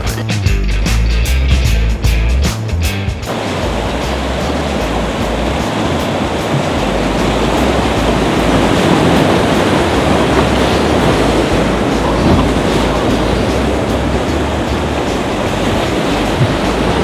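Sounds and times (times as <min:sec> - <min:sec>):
river rapids rushing: 0:03.3 - 0:17.0.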